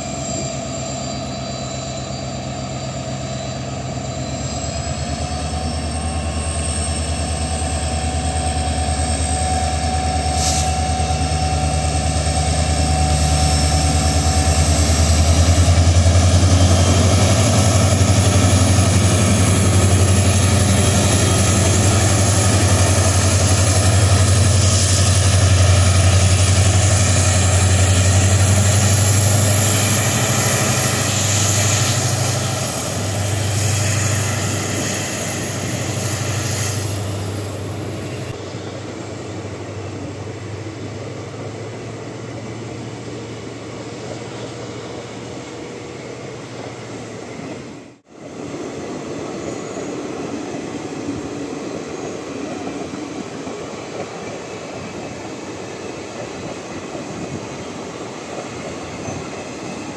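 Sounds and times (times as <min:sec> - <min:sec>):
diesel locomotive engine drone: 0:00.0 - 0:59.9
train coaches rolling on rails: 0:00.0 - 0:59.9.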